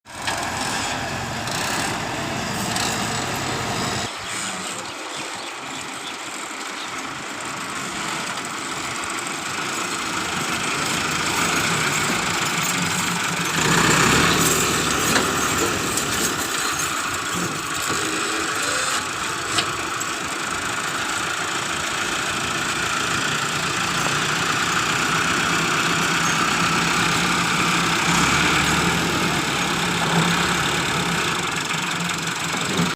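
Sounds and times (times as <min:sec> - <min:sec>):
tractor engine running: 0:00.1 - 0:32.9.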